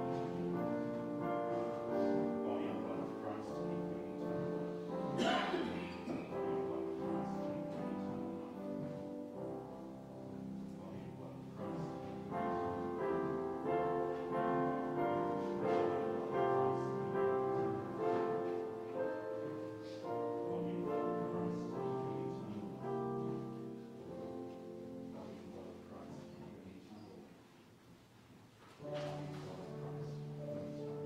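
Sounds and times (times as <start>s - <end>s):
slow keyboard chords: 0.0s - 27.3s, 28.8s - 31.0s.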